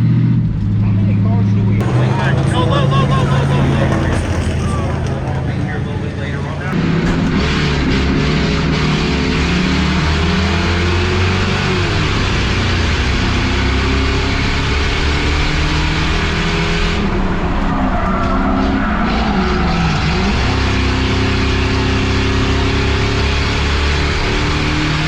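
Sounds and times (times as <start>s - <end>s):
race car engine at speed: 0.0s - 25.0s.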